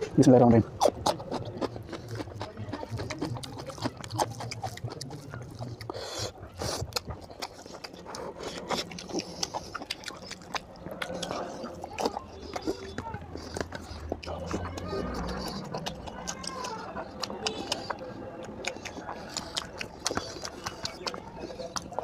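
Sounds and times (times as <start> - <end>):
slurping: 0.0 - 22.0
wet chewing and lip smacks: 0.0 - 22.0.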